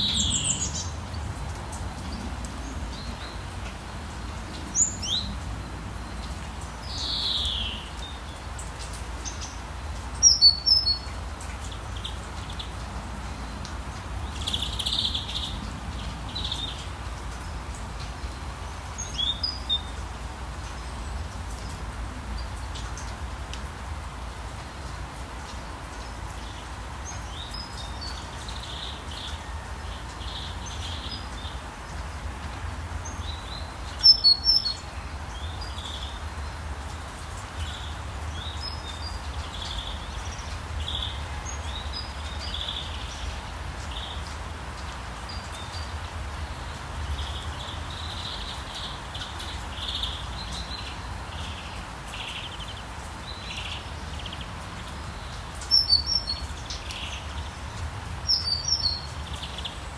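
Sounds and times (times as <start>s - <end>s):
forest birds chirping: 0.0s - 1.4s, 2.0s - 23.2s, 25.5s - 59.9s
rain hissing: 0.0s - 59.9s.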